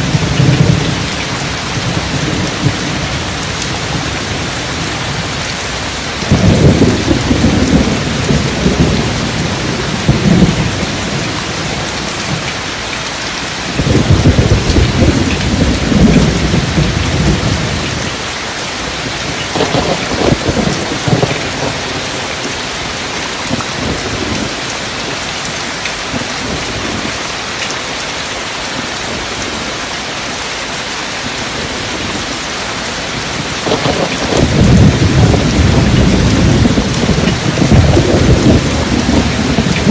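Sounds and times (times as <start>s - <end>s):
thunder rumbling: 0.0s - 12.5s, 13.5s - 18.2s, 18.9s - 25.2s, 31.2s - 39.9s
steady rain: 0.0s - 39.9s.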